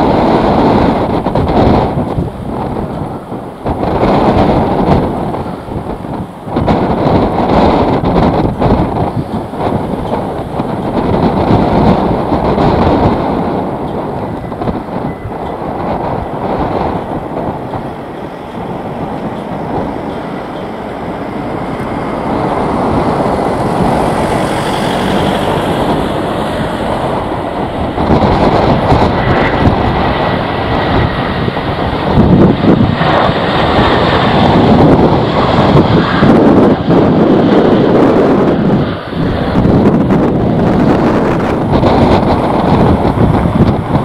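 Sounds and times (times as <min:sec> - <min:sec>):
airliner engines running: 0:00.0 - 0:44.0
wind buffeting microphone: 0:00.0 - 0:44.0.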